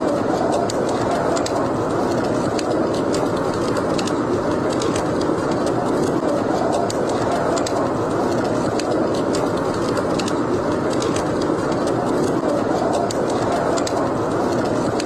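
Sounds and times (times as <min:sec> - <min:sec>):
blizzard wind roaring: 0:00.0 - 0:15.0
log fire crackling: 0:00.0 - 0:15.0.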